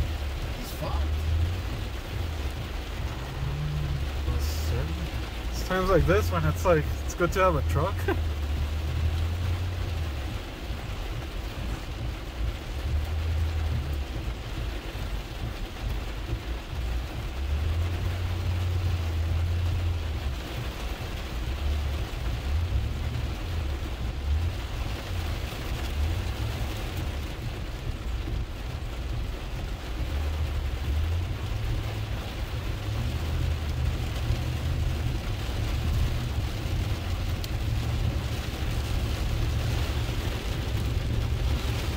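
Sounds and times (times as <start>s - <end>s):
rain hiss: 0.0s - 41.9s
truck engine rumble: 0.0s - 41.9s.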